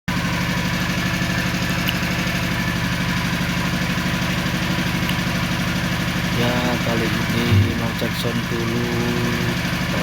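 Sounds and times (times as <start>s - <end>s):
engine idling: 0.1s - 10.0s.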